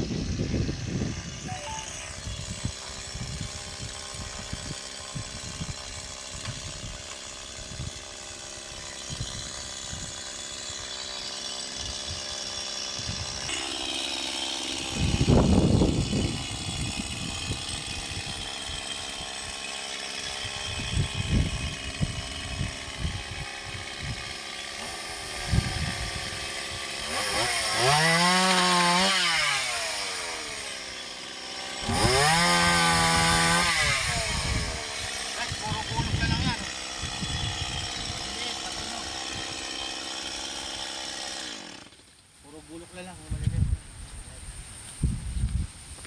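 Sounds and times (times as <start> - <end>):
mini chainsaw motor whining: 0.0 - 44.2.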